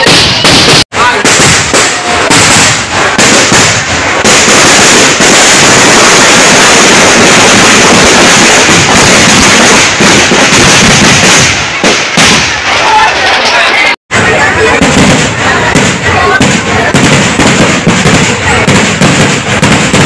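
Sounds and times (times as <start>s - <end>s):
firecrackers going off: 0.0s - 20.0s.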